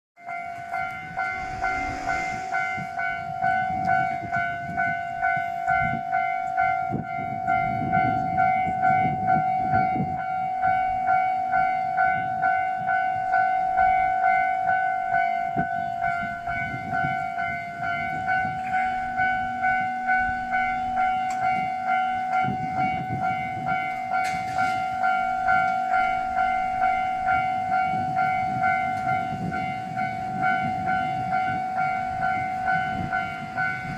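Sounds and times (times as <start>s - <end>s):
low train rumble: 0.2s - 33.9s.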